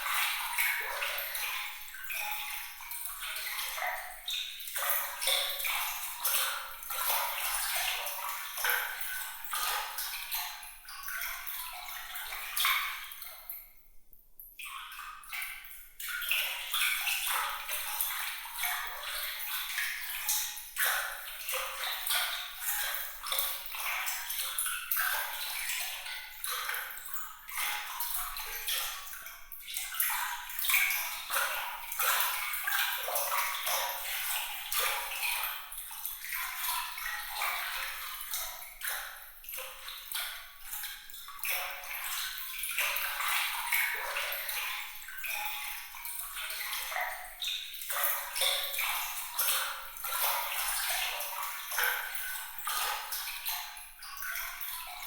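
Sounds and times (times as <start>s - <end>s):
water trickling and splashing: 0.0s - 13.9s, 14.6s - 55.0s.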